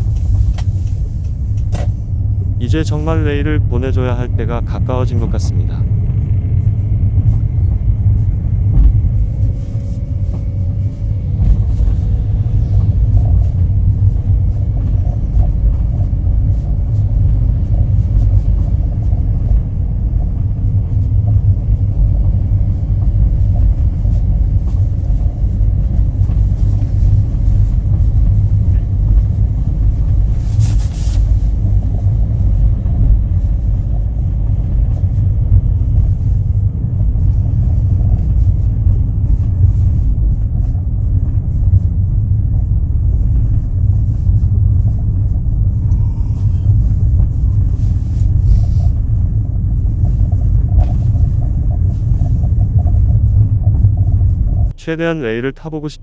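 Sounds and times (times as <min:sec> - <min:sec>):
car engine low rumble: 0:00.0 - 0:56.0.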